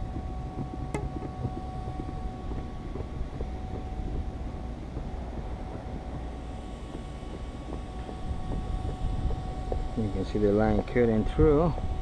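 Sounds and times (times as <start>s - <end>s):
steady low rumble: 0.0s - 12.0s
wire crackling and creaking: 0.0s - 12.0s.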